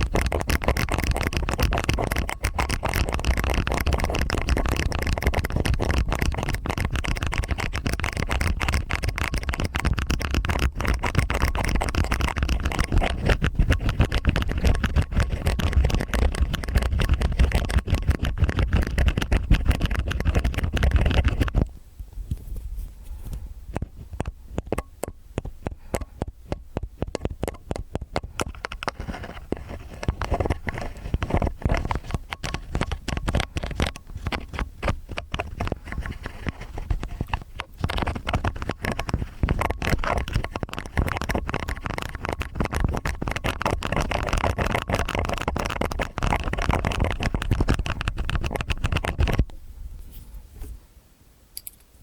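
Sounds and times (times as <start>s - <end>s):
ear picks scraping: 0.0s - 50.8s.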